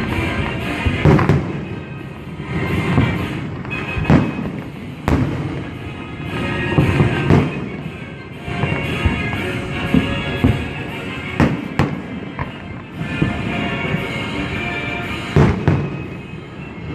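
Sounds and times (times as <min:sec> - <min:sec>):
fireworks banging: 0:00.0 - 0:16.9
music: 0:00.0 - 0:16.9.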